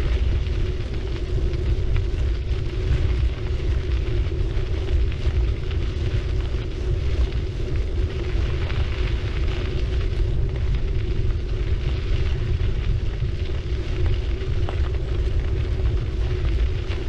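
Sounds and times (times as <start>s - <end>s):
steady hum: 0.0s - 17.0s
wind on microphone: 0.0s - 17.0s.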